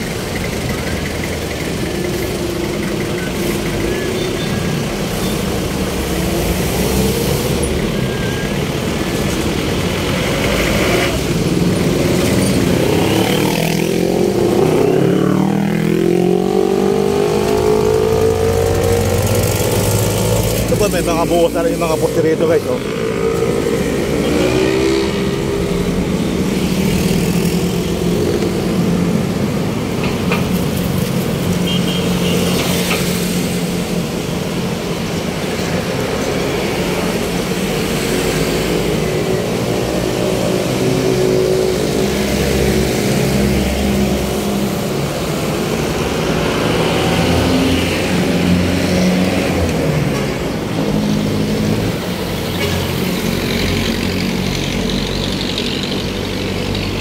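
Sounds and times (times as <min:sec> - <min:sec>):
tyre and street noise: 0:00.0 - 0:57.0
vehicle engines humming: 0:00.0 - 0:57.0.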